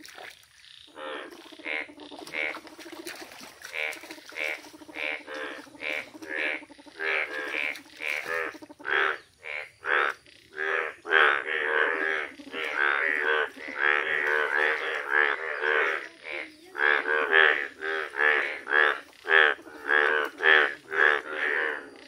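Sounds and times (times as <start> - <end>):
bullfrogs croaking: 0.0 - 22.0.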